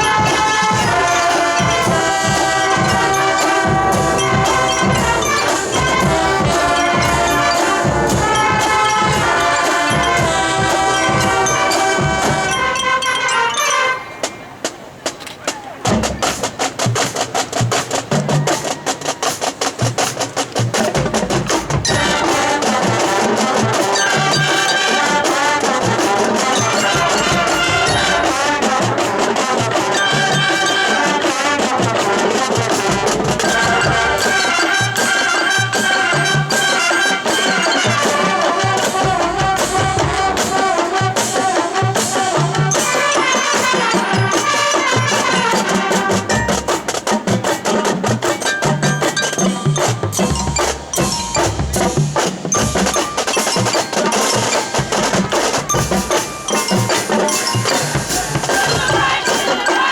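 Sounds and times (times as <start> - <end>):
drum strokes: 0.0 - 59.9
marching band playing: 0.0 - 59.9.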